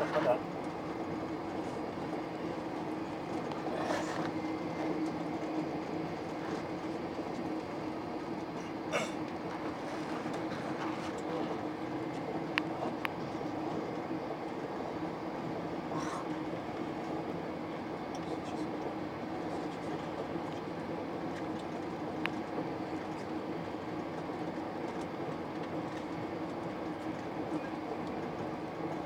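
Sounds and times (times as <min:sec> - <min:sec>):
train rumble and hiss: 0:00.0 - 0:29.0.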